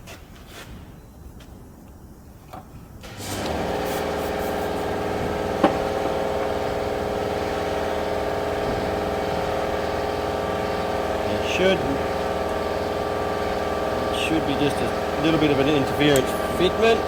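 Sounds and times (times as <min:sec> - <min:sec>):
motor running: 0:03.1 - 0:17.0.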